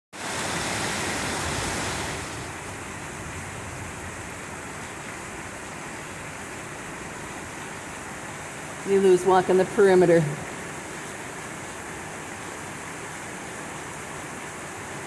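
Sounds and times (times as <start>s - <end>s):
heavy rain hissing: 0.2s - 15.0s.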